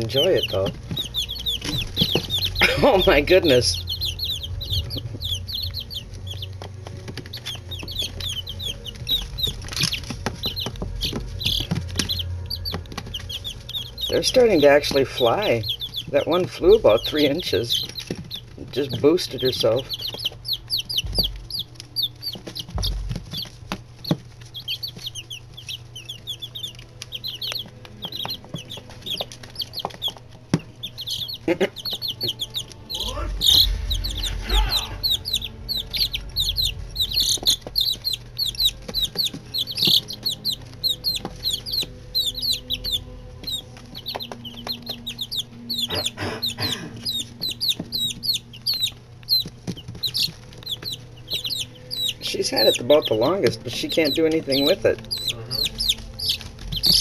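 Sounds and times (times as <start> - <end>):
low hum: 0.0 - 52.3
chicks peeping: 0.0 - 57.0.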